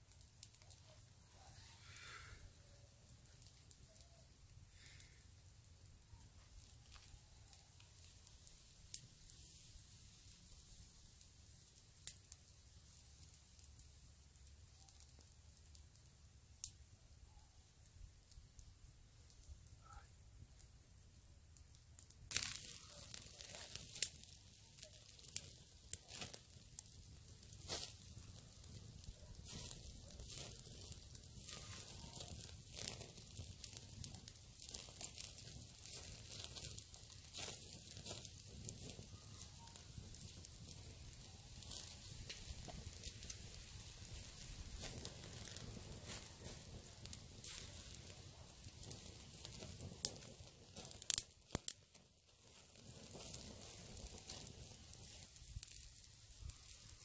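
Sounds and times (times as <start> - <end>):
sharp pops from fire: 0.0 - 57.0
wood fire crackling: 0.0 - 57.0.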